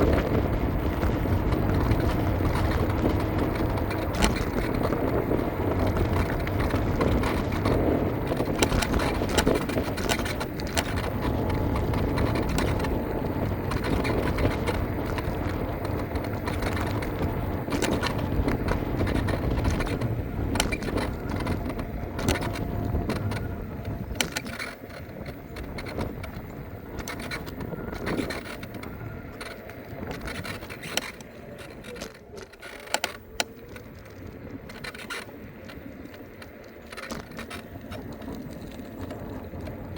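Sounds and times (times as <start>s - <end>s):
small rattles and clicks: 0.0s - 39.9s
tyre rumble: 0.0s - 39.9s
wind noise: 0.0s - 39.9s.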